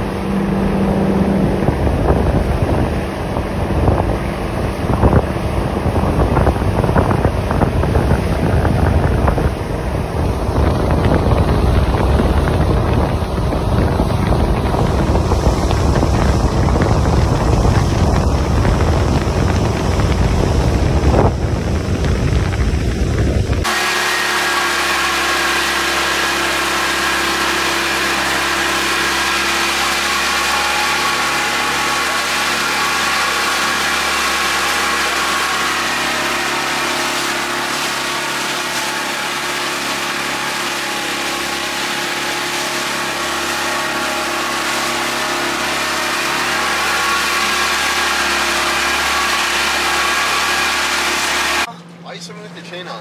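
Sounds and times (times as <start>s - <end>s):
boat motor droning: 0.0s - 53.0s.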